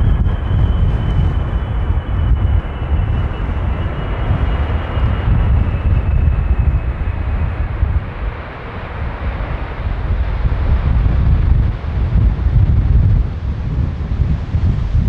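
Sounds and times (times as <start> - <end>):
faint high jet whine: 0.0 - 15.0
jet engines rumbling: 0.0 - 15.0.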